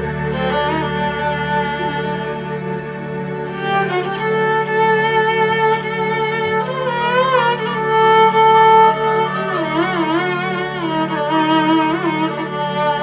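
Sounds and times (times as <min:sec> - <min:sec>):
electric violin slow melody: 0:00.0 - 0:13.0
steady low hum: 0:00.0 - 0:13.0.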